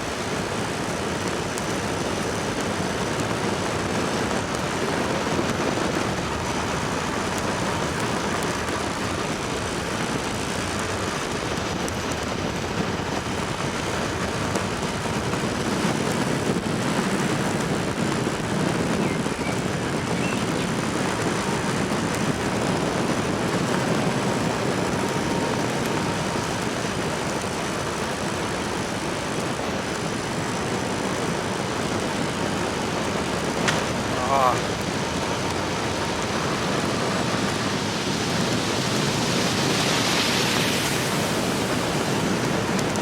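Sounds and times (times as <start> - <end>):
rushing air: 0.0 - 43.0
tyres rolling on road: 0.0 - 43.0.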